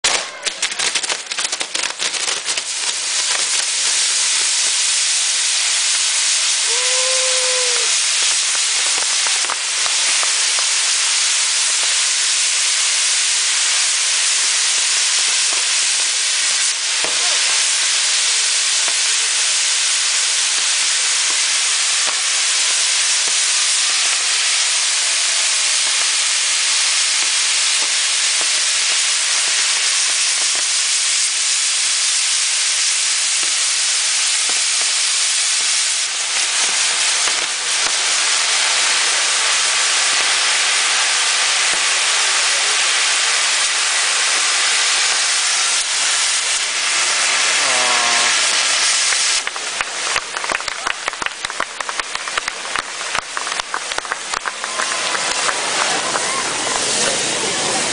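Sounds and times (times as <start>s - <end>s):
firework spraying sparks hiss: 0.0s - 57.9s.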